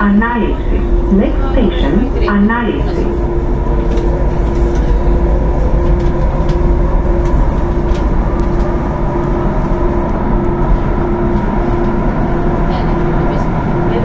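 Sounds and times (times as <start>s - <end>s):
mid-pitched hum: 0.0s - 14.0s
train low rumble: 0.0s - 14.0s.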